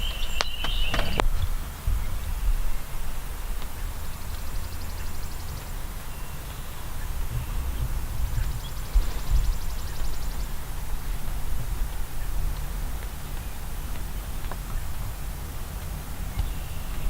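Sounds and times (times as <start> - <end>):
high songbird trill: 0.0 - 17.0
wind buffeting microphone: 0.0 - 17.0.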